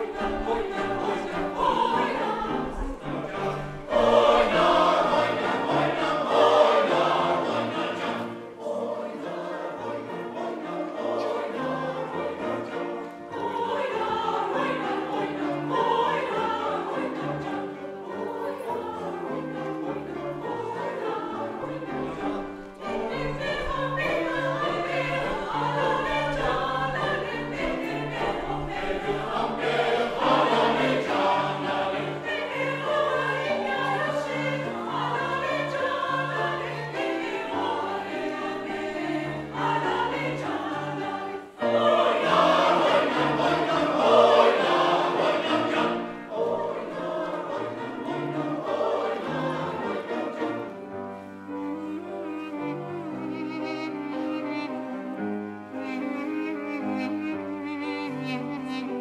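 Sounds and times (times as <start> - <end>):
mixed choir singing: 0.0 - 59.0
piano accompaniment: 0.0 - 59.0.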